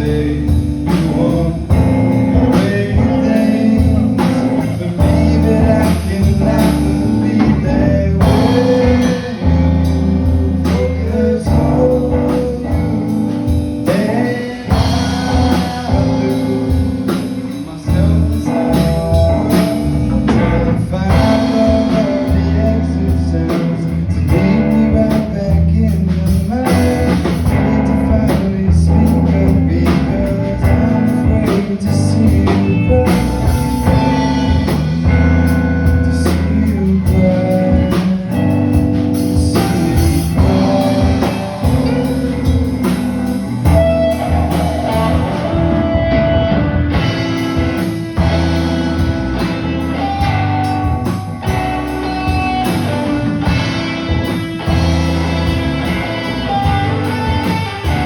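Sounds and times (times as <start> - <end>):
live blues band playing: 0.0 - 58.0
person singing: 0.0 - 58.0.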